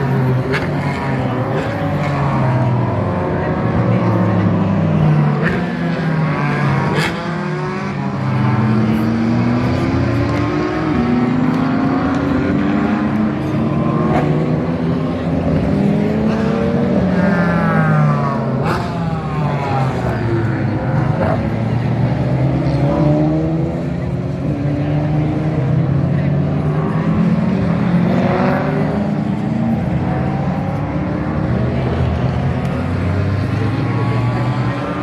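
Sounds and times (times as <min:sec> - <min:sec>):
race cars passing: 0:00.0 - 0:35.0.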